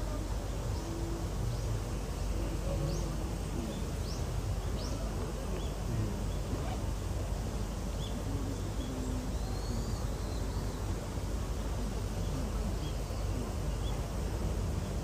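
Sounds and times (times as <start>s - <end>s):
faint murmur of distant voices: 0.0s - 15.0s.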